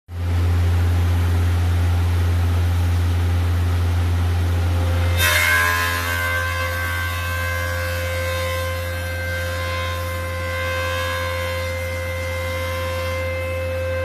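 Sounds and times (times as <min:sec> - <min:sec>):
high steady whine: 0:00.1 - 0:14.0
wood planer humming: 0:00.1 - 0:14.0.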